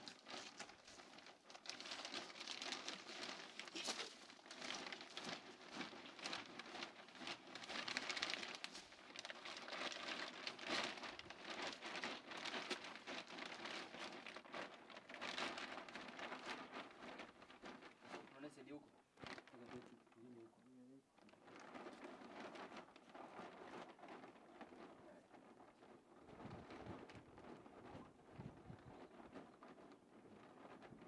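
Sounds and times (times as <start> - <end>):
plastic tube crinkling: 0.0 - 31.0.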